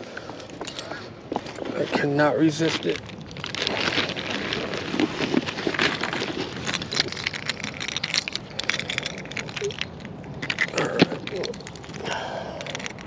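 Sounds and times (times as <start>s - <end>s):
tackle bag rustling and crinkling: 0.5s - 13.0s.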